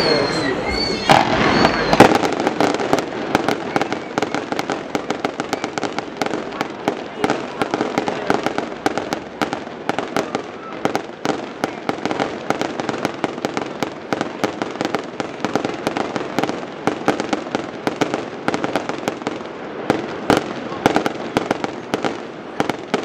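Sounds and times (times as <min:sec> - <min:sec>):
fireworks crackling hiss: 0:00.0 - 0:23.0
fireworks popping and banging: 0:00.0 - 0:23.0.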